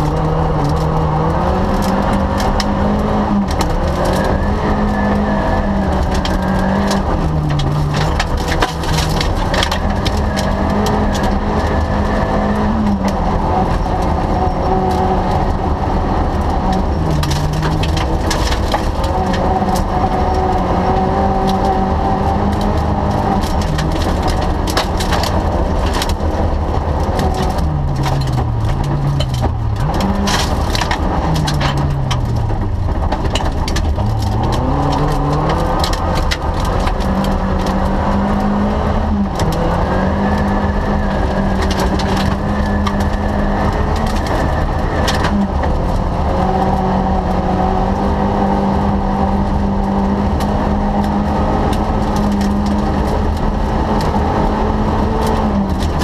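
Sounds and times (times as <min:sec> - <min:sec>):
gravel rattling against car underside: 0:00.0 - 0:56.0
rally car engine revving: 0:00.0 - 0:56.0.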